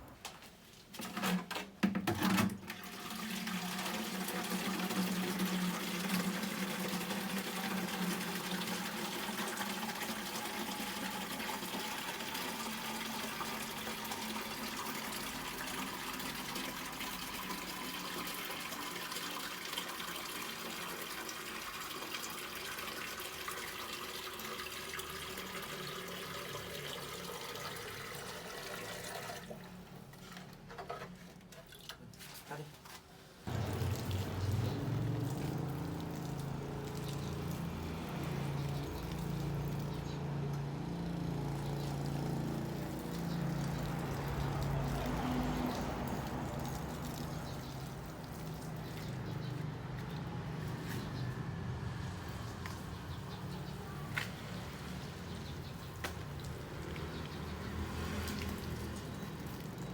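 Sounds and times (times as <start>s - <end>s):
water running: 3.0s - 29.8s, 33.5s - 59.9s.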